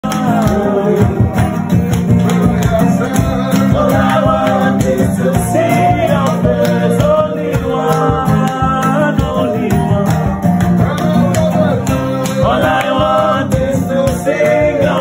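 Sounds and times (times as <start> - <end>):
people singing gospel: 0.0 - 15.0
strummed guitar: 0.0 - 15.0.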